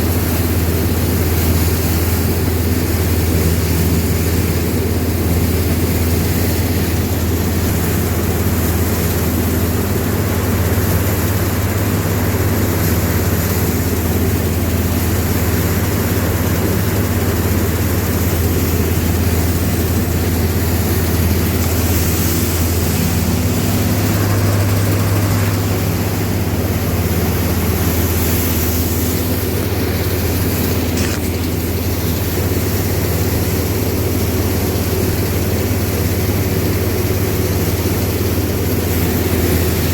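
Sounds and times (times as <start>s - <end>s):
large engine droning: 0.0s - 39.9s.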